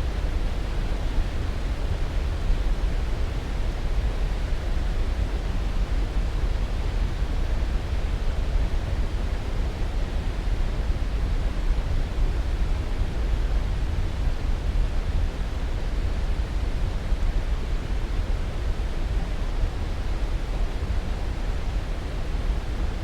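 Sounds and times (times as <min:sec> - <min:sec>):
steady white noise hiss: 0:00.0 - 0:23.0.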